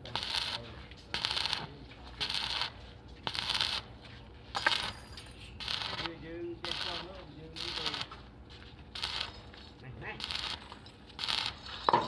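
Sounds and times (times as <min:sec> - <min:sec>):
welding arc crackling and hissing: 0:00.0 - 0:12.0.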